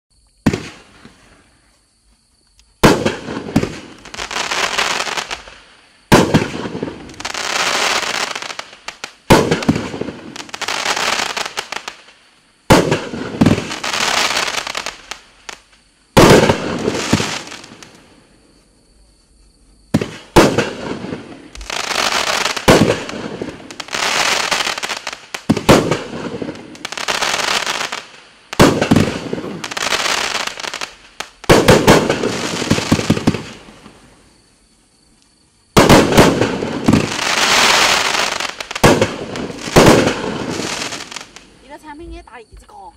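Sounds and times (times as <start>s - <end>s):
firework stars crackling: 0.4s - 1.7s, 2.5s - 18.6s, 19.9s - 42.9s.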